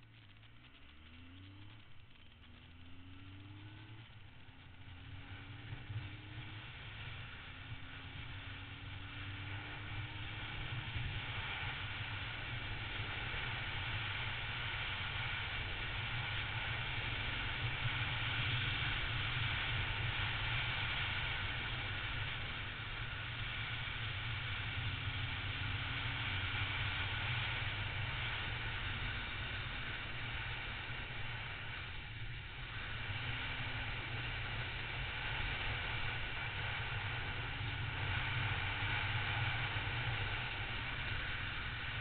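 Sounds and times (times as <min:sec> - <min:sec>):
motorcycle engine cruising: 0:00.0 - 0:42.0.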